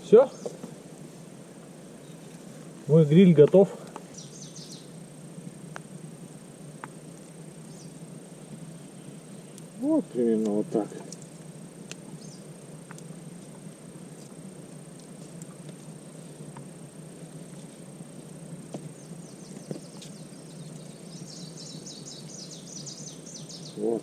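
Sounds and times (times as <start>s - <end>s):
high insect buzz: 0.0s - 24.0s
low background hiss: 0.0s - 24.0s.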